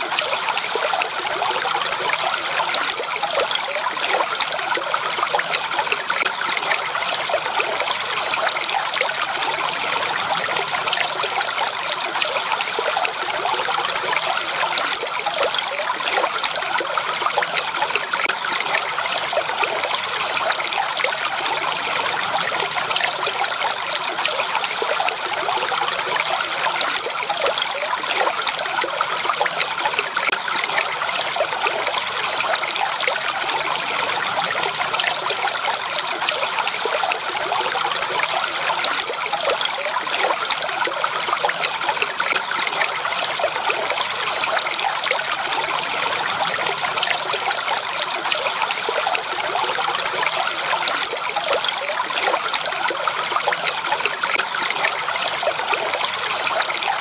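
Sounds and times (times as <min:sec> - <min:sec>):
stream bubbling over stones: 0:00.0 - 0:57.0.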